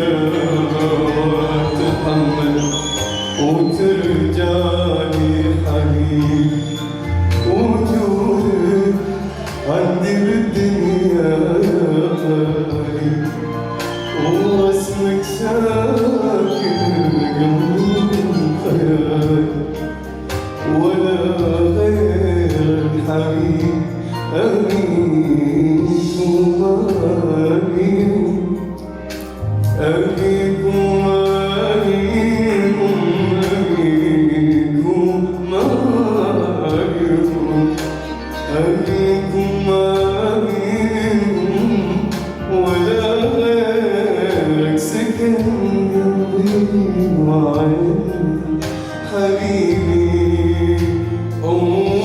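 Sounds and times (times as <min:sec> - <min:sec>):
instrumental accompaniment: 0:00.0 - 0:52.0
man singing slow melody: 0:00.0 - 0:52.0.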